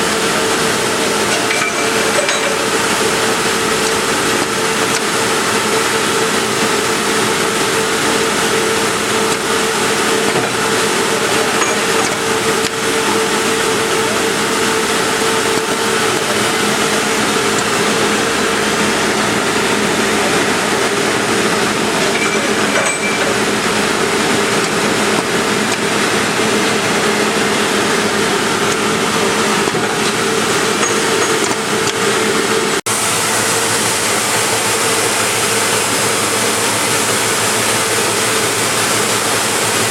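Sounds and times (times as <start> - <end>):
disc grinder grinding metal: 0.0 - 32.8.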